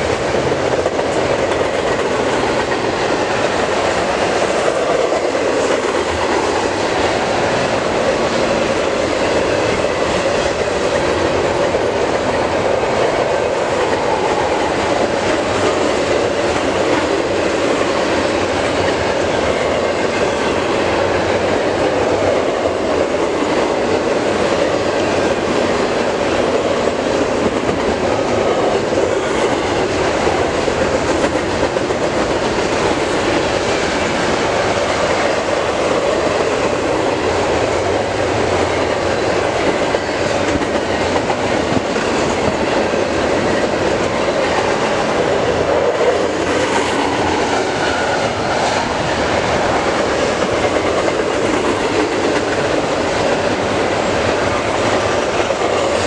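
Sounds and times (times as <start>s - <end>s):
steel wheels running on rails: 0.0s - 56.0s.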